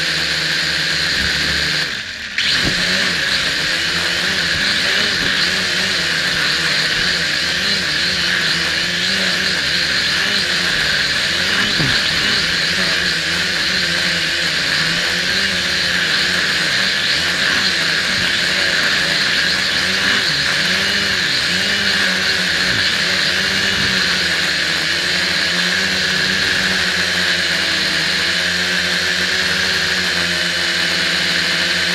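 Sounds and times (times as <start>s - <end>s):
quadcopter propellers whirring: 0.0s - 31.9s.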